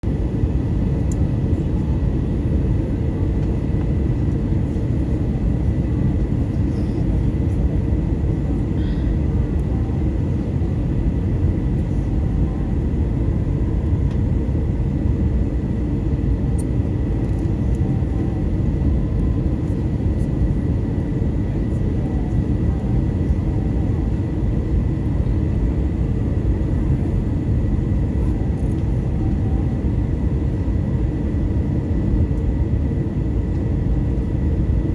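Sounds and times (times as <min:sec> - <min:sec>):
deep rumble of engines and airflow: 0:00.0 - 0:34.9
thin steady whine: 0:00.0 - 0:34.9.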